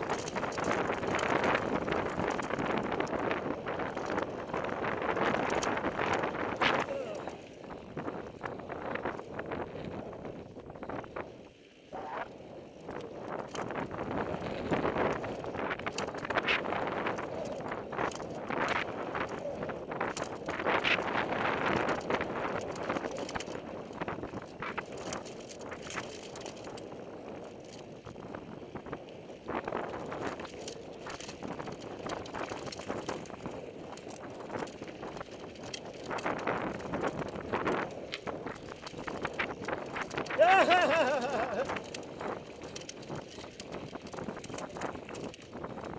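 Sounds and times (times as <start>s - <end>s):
mountain bike clattering on trail: 0.0s - 11.3s, 12.8s - 45.9s
tyre and wind noise: 0.0s - 45.9s.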